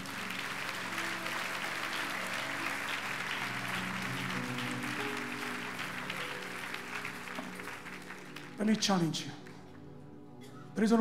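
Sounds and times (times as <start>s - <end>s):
congregation applauding: 0.0s - 9.9s
background music of held chords: 0.0s - 11.0s.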